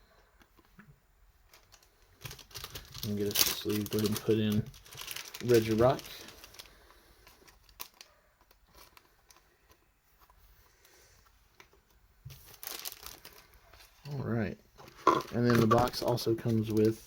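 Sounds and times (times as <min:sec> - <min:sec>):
handling rustling: 0:00.3 - 0:17.0.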